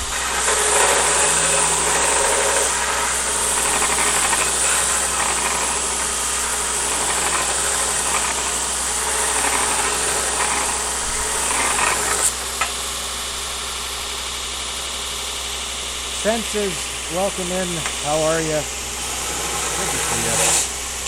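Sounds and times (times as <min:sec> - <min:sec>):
belt grinder grinding steel: 0:00.0 - 0:12.9, 0:16.1 - 0:21.0.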